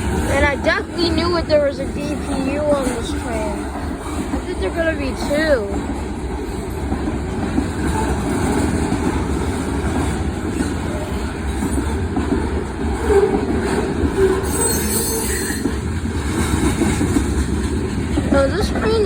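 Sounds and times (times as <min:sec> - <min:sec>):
freight train cars rumbling past: 0:00.0 - 0:19.0.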